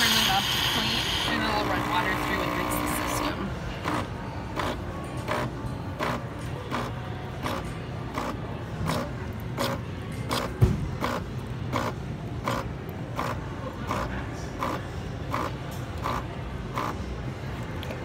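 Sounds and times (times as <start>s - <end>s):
coffee machine pump pulsing: 0.0s - 18.0s.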